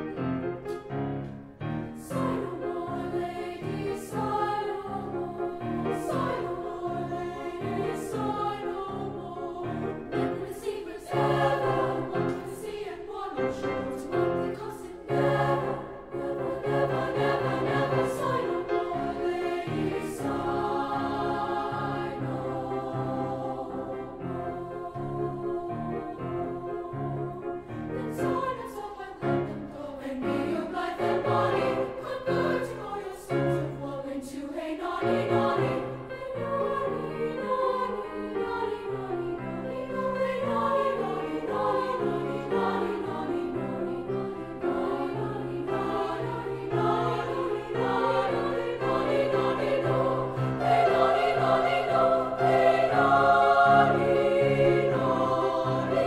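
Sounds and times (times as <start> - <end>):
treble choir singing: 0.0 - 56.0.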